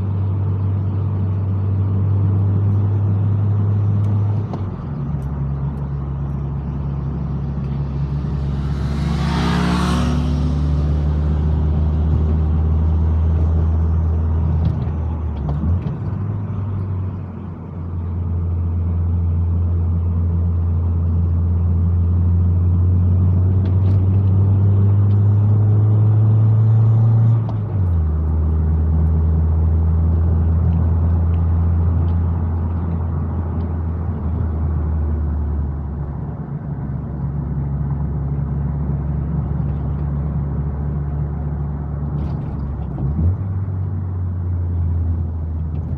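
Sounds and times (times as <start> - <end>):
car engine droning: 0.0 - 45.9.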